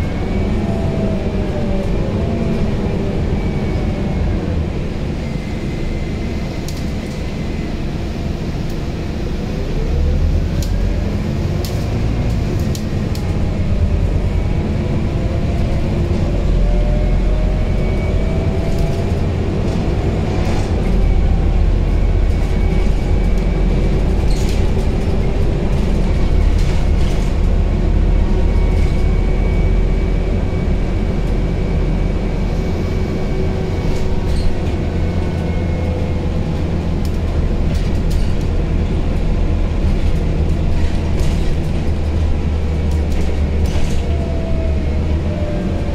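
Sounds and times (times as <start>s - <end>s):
bus engine low rumble: 0.0s - 45.9s.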